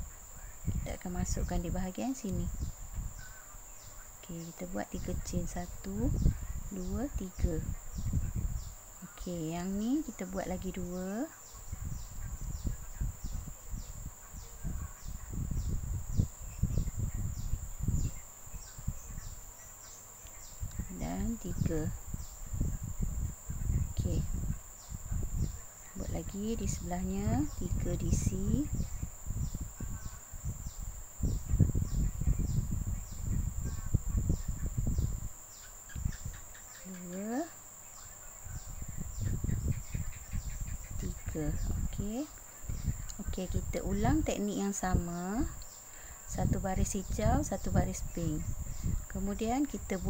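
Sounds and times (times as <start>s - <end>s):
high insect trill: 0.0s - 50.0s
steady high whine: 0.0s - 50.0s.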